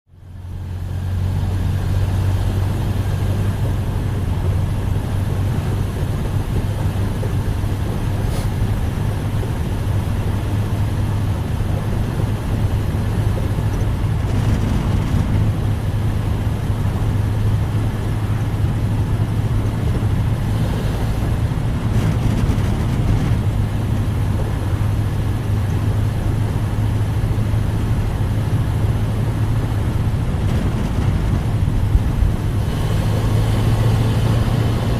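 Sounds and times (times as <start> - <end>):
car engine droning: 0.1 - 34.9.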